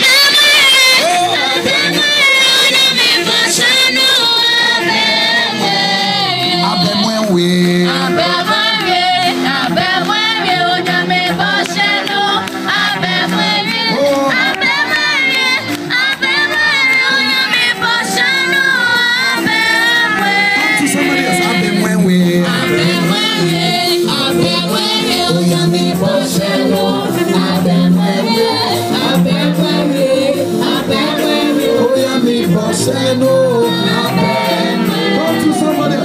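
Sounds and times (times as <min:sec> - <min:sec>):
group singing over loudspeakers: 0:00.0 - 0:36.0.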